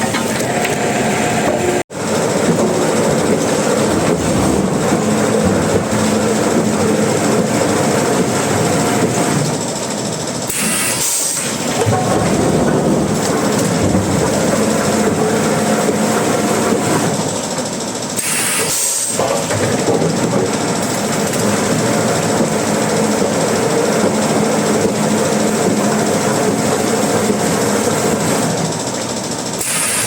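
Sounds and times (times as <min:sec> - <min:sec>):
sawmill machinery clattering: 0:00.0 - 0:30.0.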